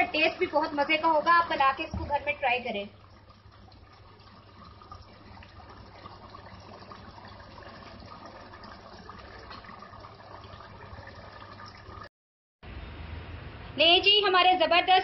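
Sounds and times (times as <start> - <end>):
curry bubbling in a pot: 0.0 - 12.1.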